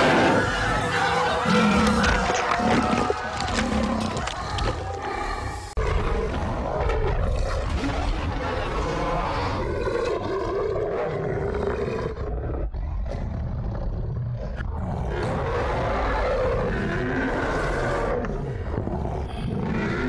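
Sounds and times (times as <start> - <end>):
beast roaring and growling: 0.0 - 20.0.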